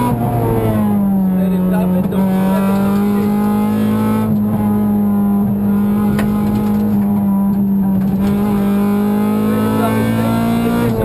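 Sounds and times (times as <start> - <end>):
car engine revving hard: 0.0 - 11.0
road and tyre noise: 0.0 - 11.0.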